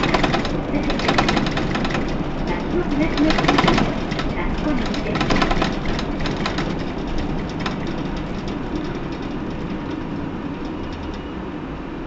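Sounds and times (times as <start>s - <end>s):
interior fittings rattling: 0.0s - 11.4s
bus diesel engine running: 0.0s - 12.0s.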